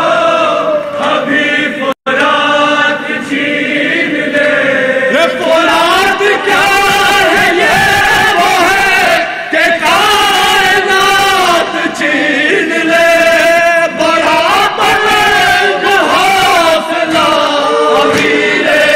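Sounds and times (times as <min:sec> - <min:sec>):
men chanting in unison: 0:00.0 - 0:18.9.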